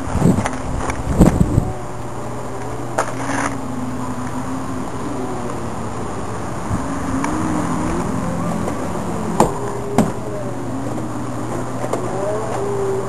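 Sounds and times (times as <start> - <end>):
low machine hum: 0.0 - 13.0
thin wavering tone: 1.4 - 13.0.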